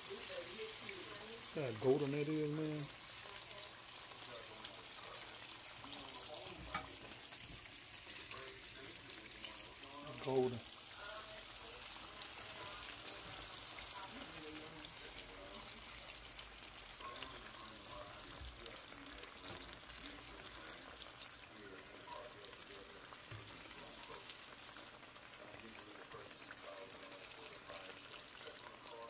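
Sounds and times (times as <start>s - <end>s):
fish deep-frying in oil: 0.0s - 29.0s.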